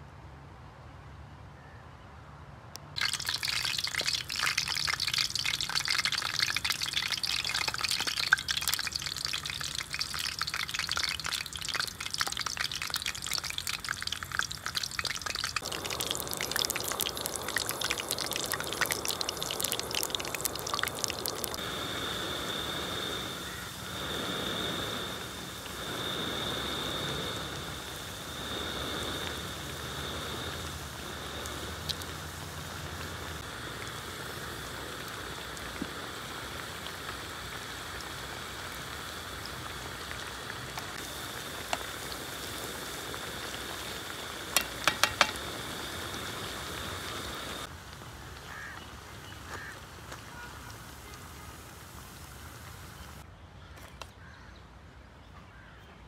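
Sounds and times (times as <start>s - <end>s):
food deep-frying in hot oil: 2.8s - 53.2s.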